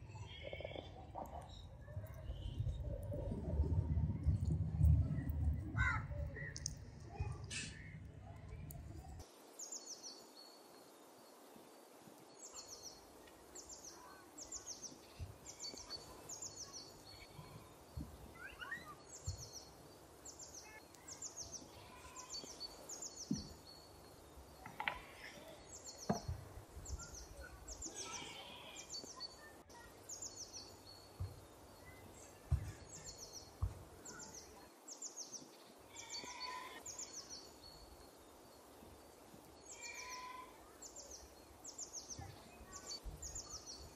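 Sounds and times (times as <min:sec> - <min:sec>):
other birds chirping: 0:00.0 - 0:03.4, 0:04.2 - 0:10.3, 0:12.4 - 0:43.9.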